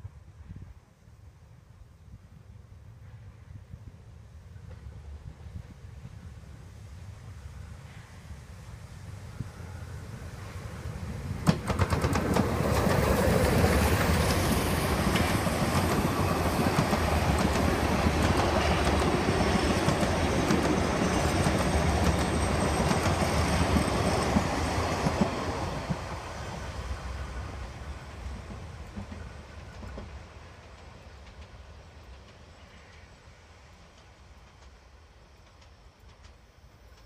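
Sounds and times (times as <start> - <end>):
steam train passing on rails: 0.0 - 37.0.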